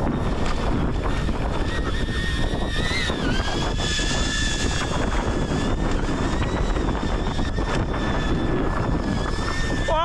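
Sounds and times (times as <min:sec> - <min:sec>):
bike tyres rumbling on trail: 0:00.0 - 0:10.0
thin high whine: 0:00.0 - 0:10.0
wind noise on microphone: 0:00.0 - 0:10.0.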